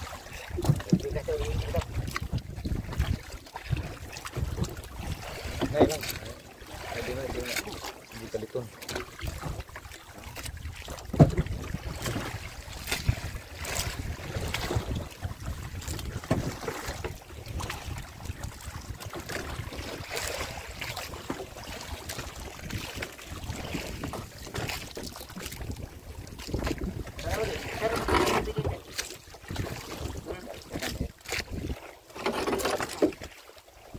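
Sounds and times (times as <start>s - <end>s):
wind on microphone: 0.0s - 6.0s, 10.3s - 31.8s.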